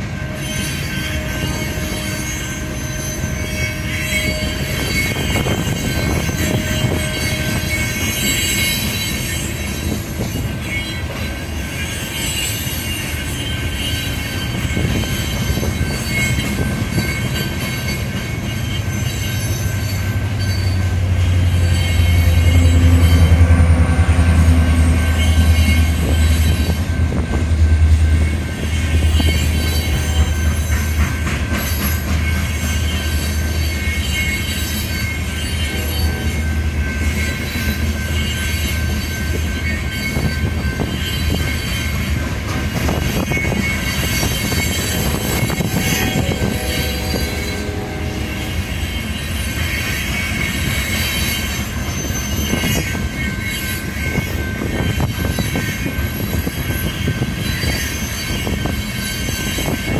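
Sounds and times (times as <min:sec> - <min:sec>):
high wheel squealing: 0:00.0 - 0:27.4, 0:28.0 - 0:59.9
freight train wheels on rails: 0:00.0 - 0:59.9.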